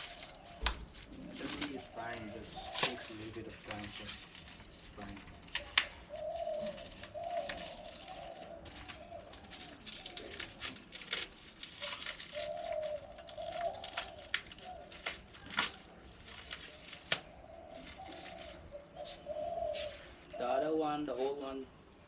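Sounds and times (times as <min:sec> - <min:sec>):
packaging crinkling and clicking: 0:00.0 - 0:18.7
pigeons cooing: 0:00.0 - 0:21.7.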